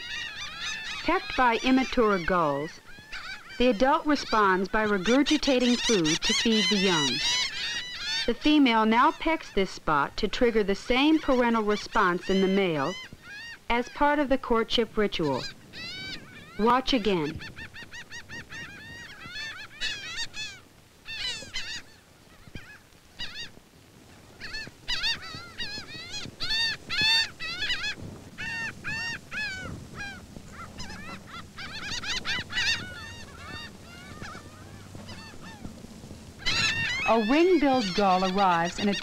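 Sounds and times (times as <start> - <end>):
gulls calling: 0.0 - 39.0.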